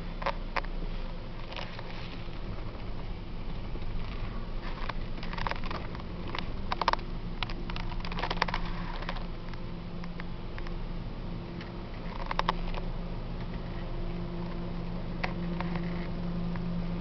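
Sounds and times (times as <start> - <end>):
engine humming: 0.0 - 17.0
rain pattering on windshield: 1.4 - 17.0.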